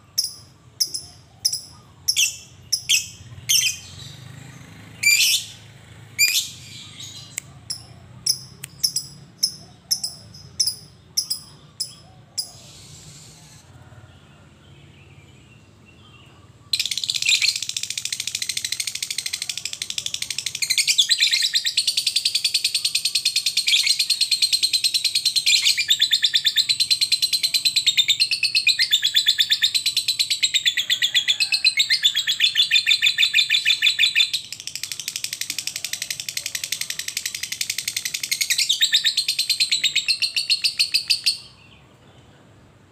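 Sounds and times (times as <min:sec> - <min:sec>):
lovebird chirping: 0:00.0 - 0:13.6, 0:15.5 - 0:41.8.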